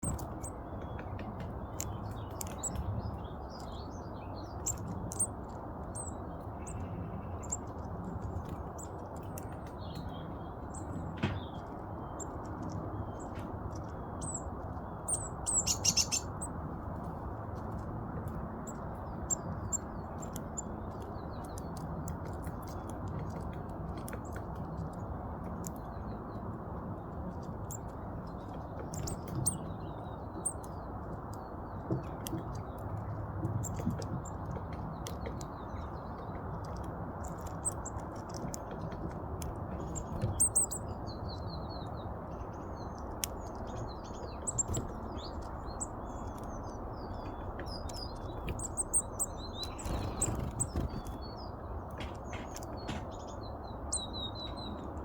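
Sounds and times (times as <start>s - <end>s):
low background rumble: 0.0s - 55.0s
songbirds chirping: 0.0s - 55.0s.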